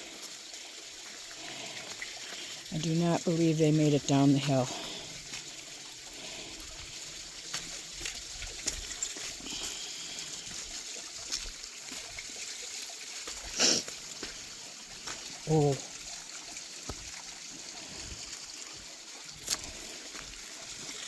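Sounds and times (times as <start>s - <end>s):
creek water trickling over rocks: 0.0s - 21.0s.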